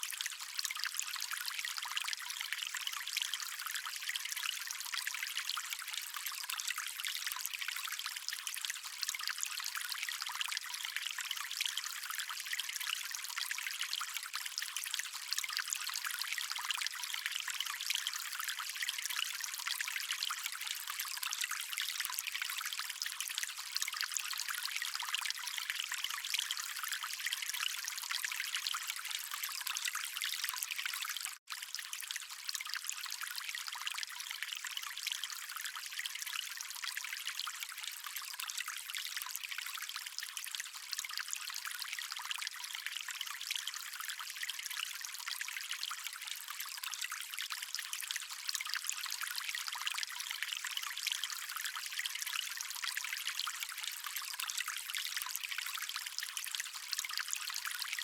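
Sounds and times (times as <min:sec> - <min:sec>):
stream water trickling and splashing: 0:00.0 - 0:58.0.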